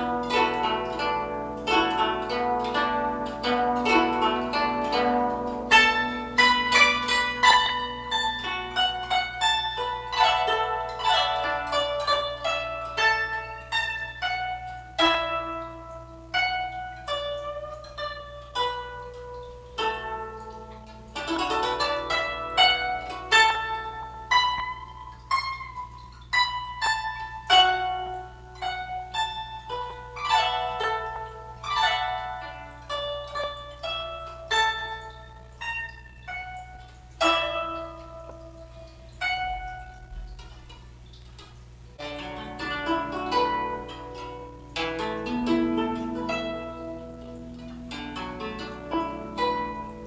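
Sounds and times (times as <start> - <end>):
plucked zither melody: 0.0 - 50.0.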